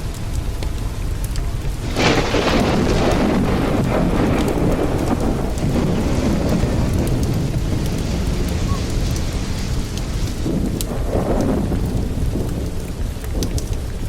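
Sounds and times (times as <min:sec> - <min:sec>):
steady rain: 0:00.0 - 0:14.0
thunderclap rumbling: 0:00.0 - 0:14.0.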